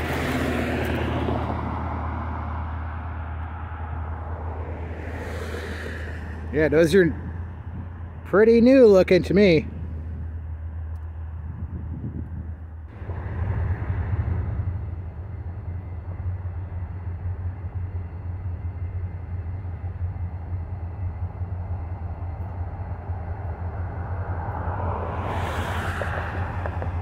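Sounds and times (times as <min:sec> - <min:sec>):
diesel locomotive engine drone: 0:00.0 - 0:27.0
train rushing noise: 0:00.0 - 0:27.0.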